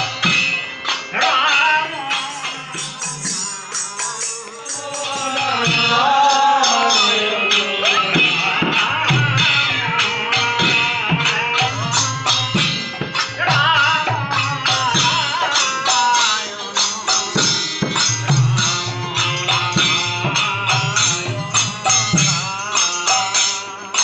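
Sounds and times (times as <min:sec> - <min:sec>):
brass hand cymbals jingling: 0:00.0 - 0:24.0
group singing: 0:00.0 - 0:24.0
harmonium: 0:00.0 - 0:24.0.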